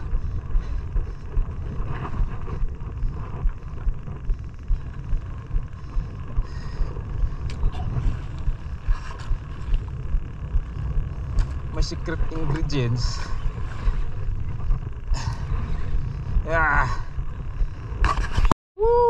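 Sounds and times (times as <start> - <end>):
boat engine rumble: 0.0 - 18.5.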